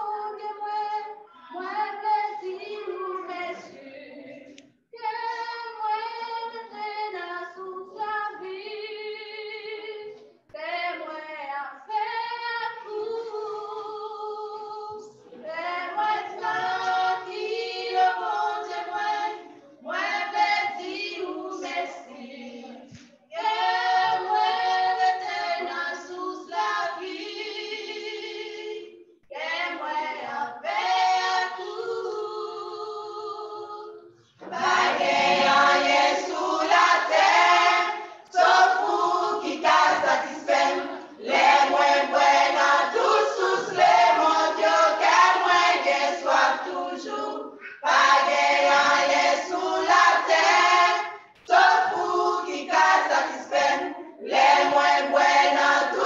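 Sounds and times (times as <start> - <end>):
group singing a worship song: 0.0 - 56.0.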